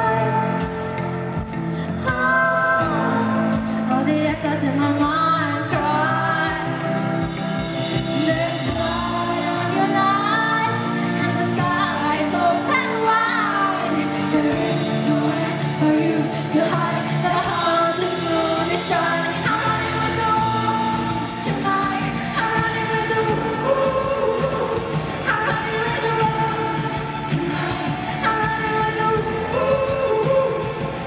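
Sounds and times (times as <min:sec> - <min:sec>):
drums and keyboards: 0:00.0 - 0:31.0
woman singing: 0:00.0 - 0:31.0.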